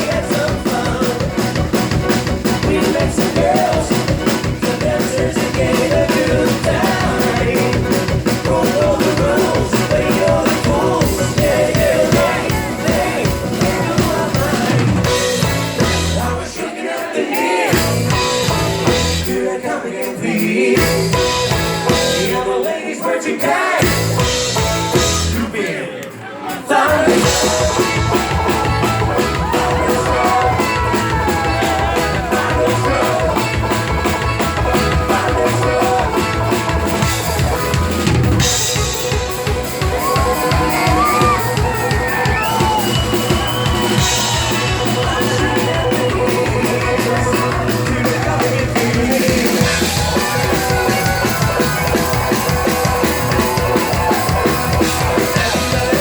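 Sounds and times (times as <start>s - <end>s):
live rock band playing: 0.0s - 22.8s, 23.4s - 25.7s, 26.5s - 56.0s
drum kit: 0.0s - 25.8s, 26.6s - 56.0s
banjo: 0.0s - 56.0s.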